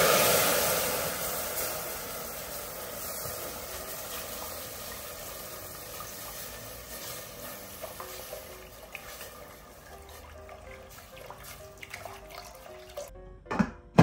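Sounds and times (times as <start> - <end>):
broth pouring: 0.0 - 13.1
roux sizzling in a pot: 0.0 - 13.1.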